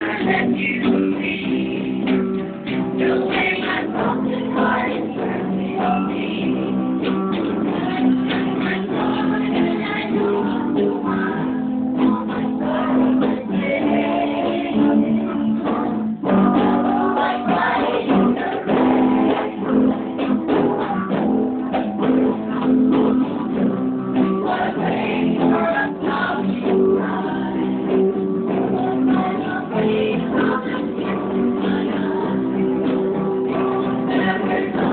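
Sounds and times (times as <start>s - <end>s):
strummed acoustic guitars: 0.0s - 34.9s.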